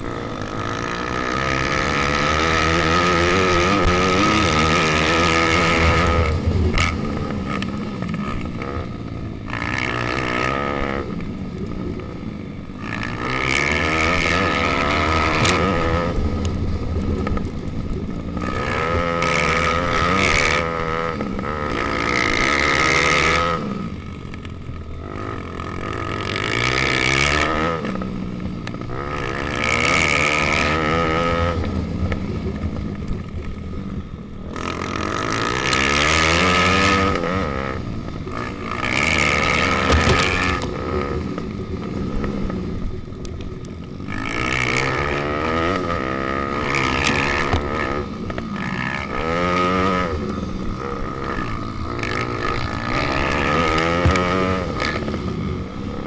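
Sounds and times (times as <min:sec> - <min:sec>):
motorbike engines revving: 0:00.0 - 0:56.0.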